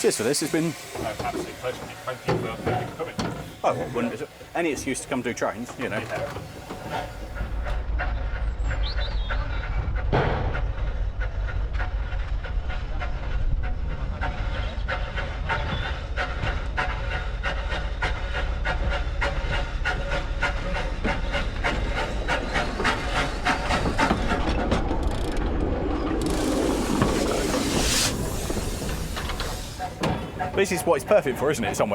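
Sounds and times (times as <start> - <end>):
steam locomotive rumble: 0.0 - 31.9.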